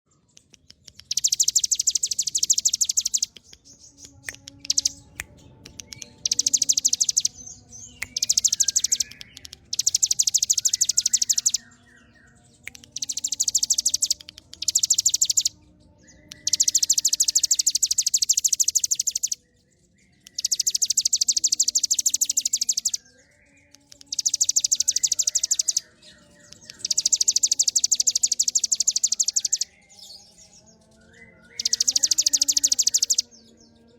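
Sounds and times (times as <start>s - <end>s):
bird singing rapid drilling trills: 0.1s - 33.9s.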